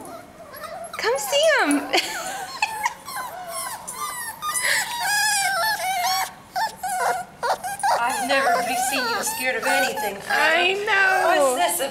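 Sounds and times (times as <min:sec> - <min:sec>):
puppies whining: 0:00.0 - 0:11.9.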